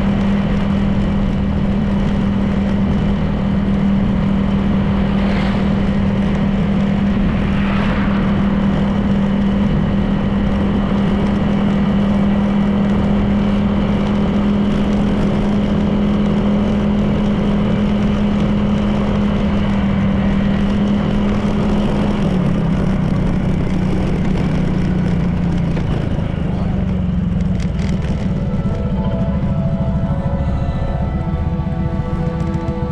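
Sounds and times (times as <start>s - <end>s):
road noise: 0.0s - 32.9s
scooter engine cruising: 0.0s - 32.9s.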